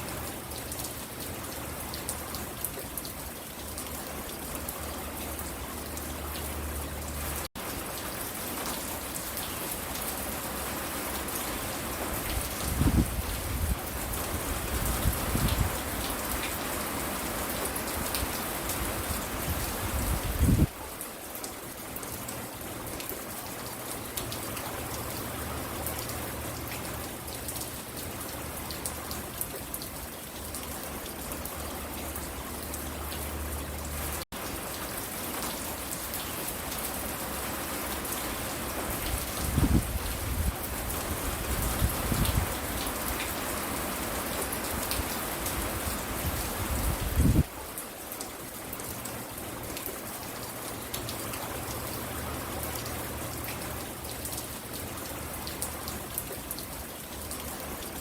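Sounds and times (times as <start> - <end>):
rain pattering on a porch: 0.0 - 58.0.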